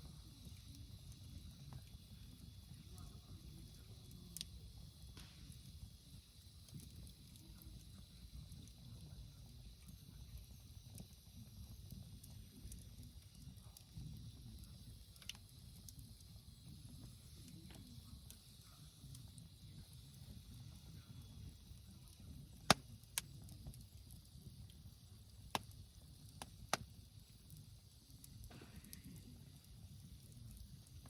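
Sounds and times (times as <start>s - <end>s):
fire crackling pops: 0.0s - 31.0s
fire low rumble: 0.0s - 31.0s.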